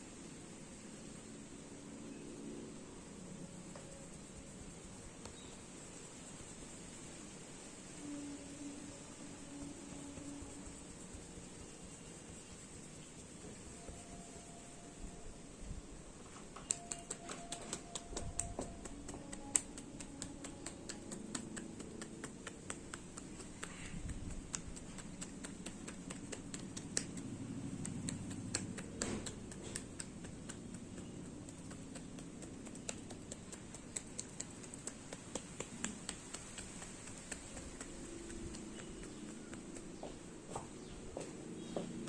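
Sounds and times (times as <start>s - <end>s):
hair crackling: 3.4s - 15.2s, 16.5s - 40.9s.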